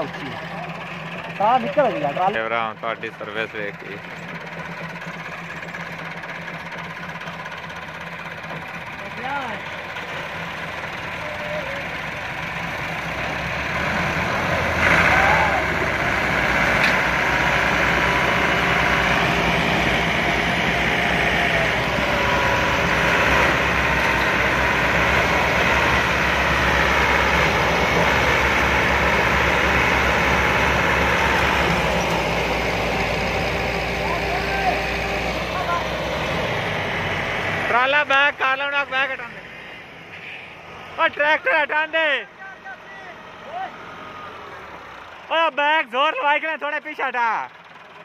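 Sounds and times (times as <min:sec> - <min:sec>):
diesel engines running hard: 0:00.0 - 0:48.0.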